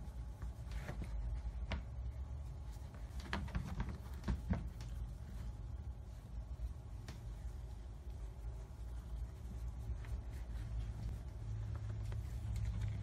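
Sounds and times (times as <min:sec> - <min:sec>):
hand rustling cat fur: 0:00.0 - 0:13.0
low steady hum: 0:00.0 - 0:13.0.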